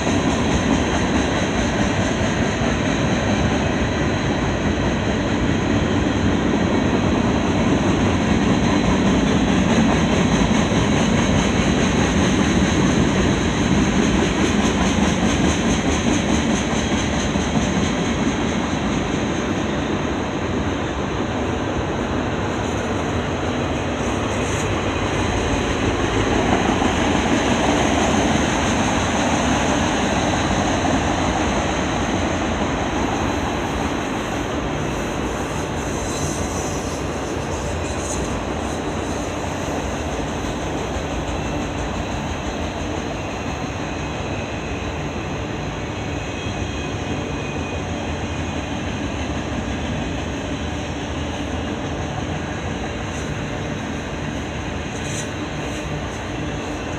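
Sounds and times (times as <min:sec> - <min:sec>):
freight train rolling past: 0:00.0 - 0:56.9.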